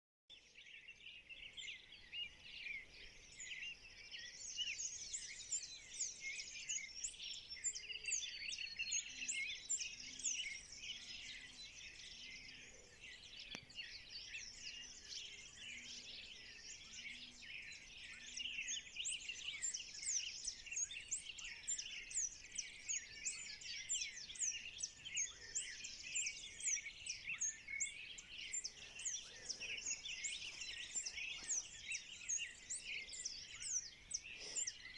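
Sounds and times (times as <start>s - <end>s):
faint low repeated bird call: 0.3s - 34.9s
birds chirping and whistling: 1.3s - 34.9s.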